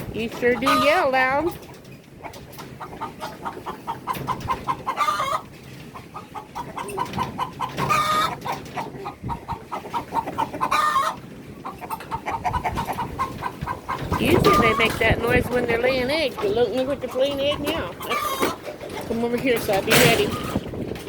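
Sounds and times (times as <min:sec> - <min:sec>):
chickens cackling: 0:00.0 - 0:21.0.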